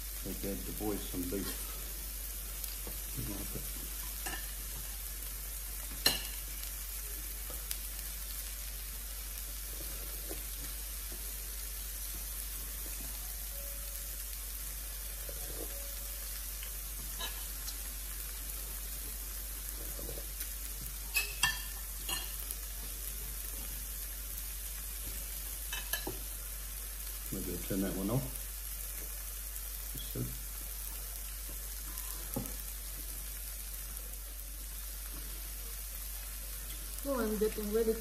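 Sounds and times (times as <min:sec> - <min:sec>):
meat sizzling on a grill plate: 0:00.0 - 0:38.0.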